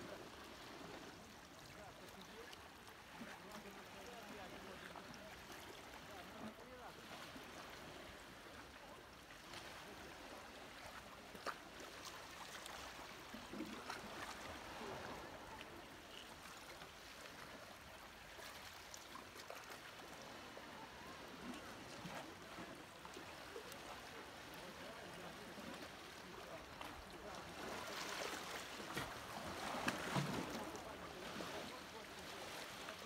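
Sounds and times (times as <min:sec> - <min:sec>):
water lapping over rocks: 0:00.0 - 0:33.0.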